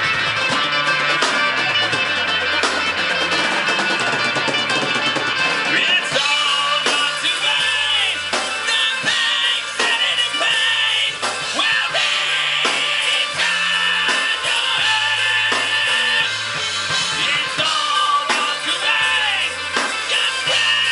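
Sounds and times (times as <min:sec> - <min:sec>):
bass line: 0:00.0 - 0:20.9
drum beat: 0:00.0 - 0:20.9.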